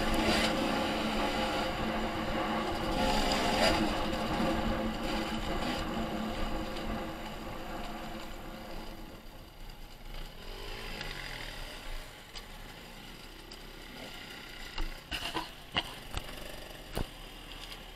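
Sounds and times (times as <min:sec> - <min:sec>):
dirt bike engine slowing: 0:00.0 - 0:17.0
dirt bike engines idling and revving: 0:00.0 - 0:17.9.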